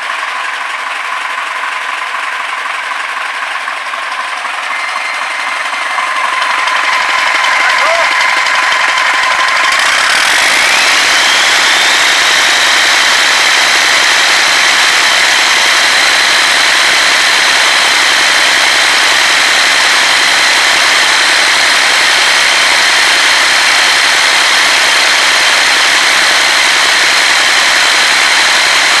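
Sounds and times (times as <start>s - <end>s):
diesel engine running loudly: 0.0s - 29.0s.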